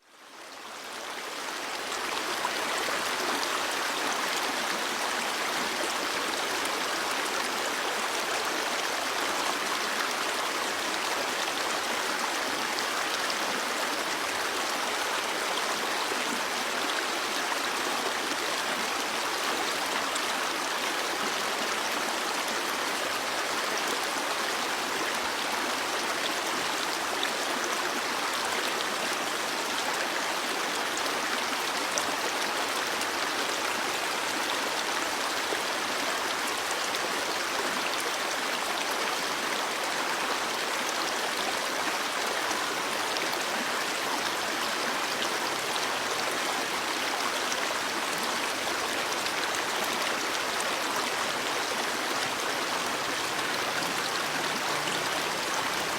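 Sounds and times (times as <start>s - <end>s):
stream flowing over rocks: 0.2s - 55.9s.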